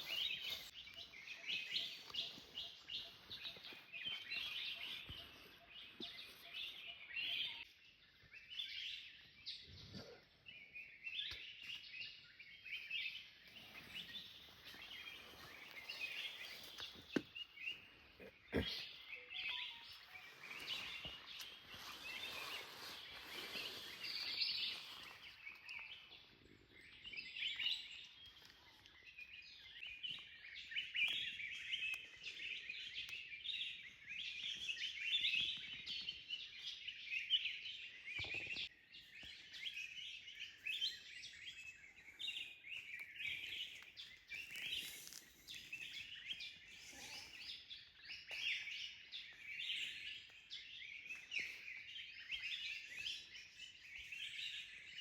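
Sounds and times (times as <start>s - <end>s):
forest birds chirping: 0.0s - 55.0s.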